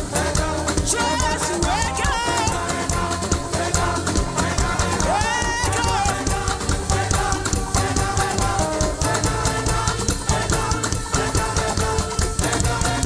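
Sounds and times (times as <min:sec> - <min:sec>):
fast drum beat: 0:00.0 - 0:13.0
live gospel band playing: 0:00.0 - 0:13.0
sustained keyboard chords: 0:00.0 - 0:13.0.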